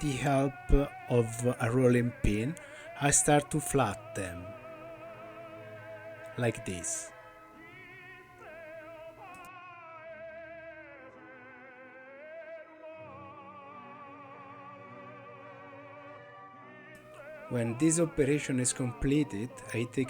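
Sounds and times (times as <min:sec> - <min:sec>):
operatic tenor singing: 0:00.0 - 0:16.1, 0:17.1 - 0:20.0.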